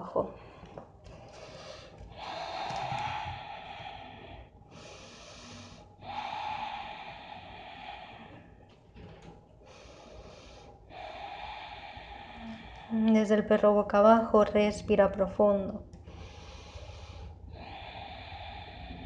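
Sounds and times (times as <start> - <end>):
woman breathing deeply: 0.0 - 13.5, 15.8 - 19.0.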